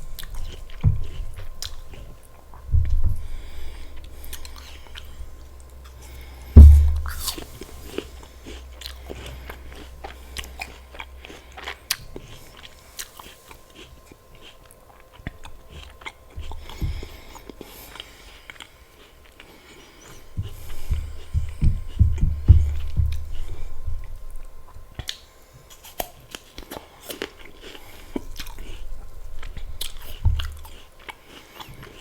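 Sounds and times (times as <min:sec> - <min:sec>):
crunchy chewing: 0:00.0 - 0:06.4, 0:07.1 - 0:22.1, 0:22.8 - 0:32.0.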